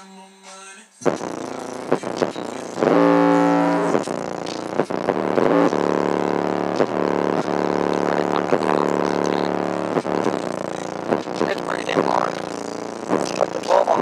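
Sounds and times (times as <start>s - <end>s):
bass-heavy rap music: 0.0s - 14.0s.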